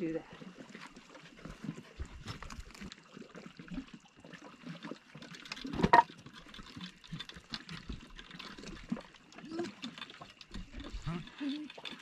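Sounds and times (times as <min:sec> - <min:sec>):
water lapping against rocks: 0:00.0 - 0:12.0.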